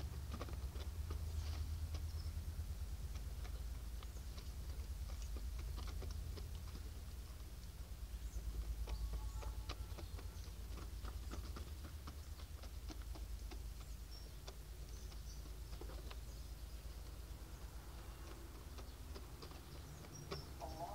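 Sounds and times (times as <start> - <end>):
hens pecking beak taps: 0.0 - 20.9.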